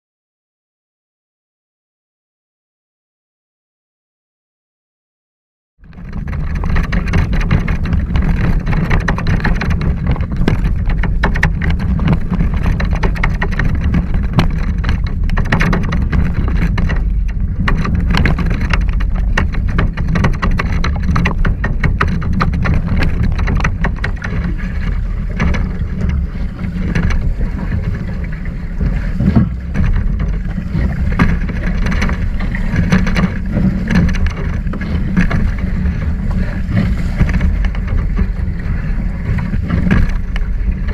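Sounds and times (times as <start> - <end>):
water splashing against hulls: 5.8 - 40.9
wind buffeting microphone: 5.8 - 40.9.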